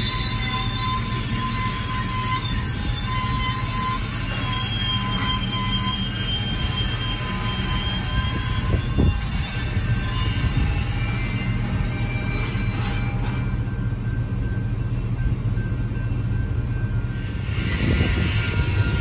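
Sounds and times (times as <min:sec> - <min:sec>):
low rumble of train: 0:00.0 - 0:19.0
train car clunk: 0:00.0 - 0:19.0
train wheels squealing: 0:00.0 - 0:19.0.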